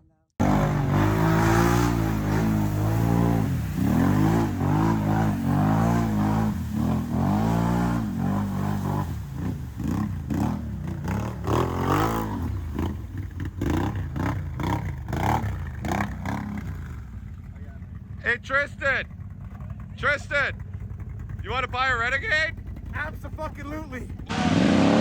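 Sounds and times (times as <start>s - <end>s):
atv engine revving: 0.4s - 25.0s.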